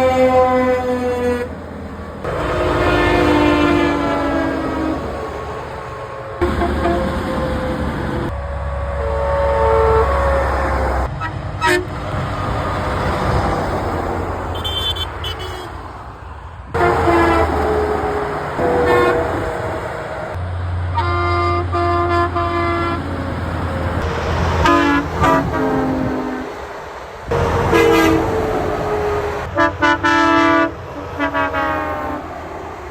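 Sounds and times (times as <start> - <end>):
passing traffic rush: 0.0 - 32.9
truck horns honking: 0.0 - 32.9.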